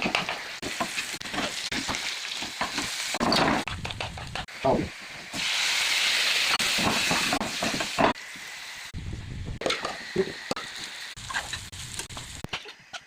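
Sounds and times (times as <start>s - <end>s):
rice sizzling in a pan: 0.0s - 3.4s, 4.5s - 9.0s, 9.6s - 12.8s.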